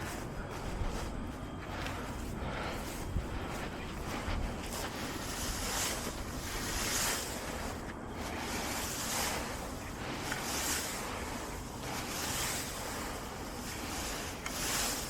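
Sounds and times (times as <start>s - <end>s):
heavy breathing: 0.0s - 12.1s.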